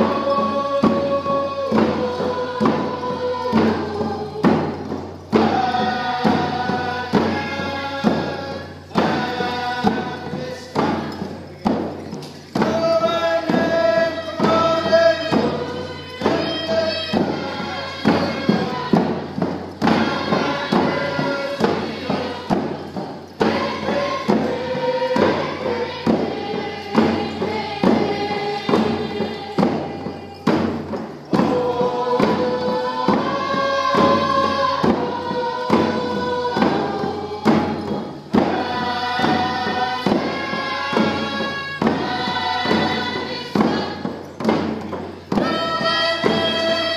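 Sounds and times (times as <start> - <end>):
group of voices singing: 0.0 - 46.9
hand drum beat: 0.0 - 46.9.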